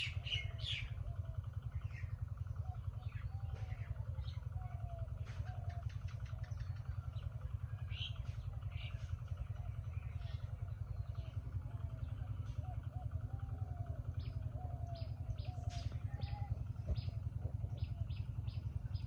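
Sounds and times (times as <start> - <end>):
low pulsing motor rumble: 0.0 - 19.0
small birds chirping: 0.0 - 19.0.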